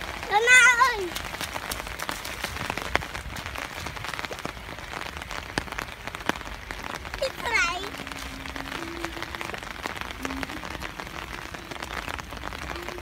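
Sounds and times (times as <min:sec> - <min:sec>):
rain hissing: 0:00.0 - 0:13.0
raindrops ticking on water: 0:00.0 - 0:13.0.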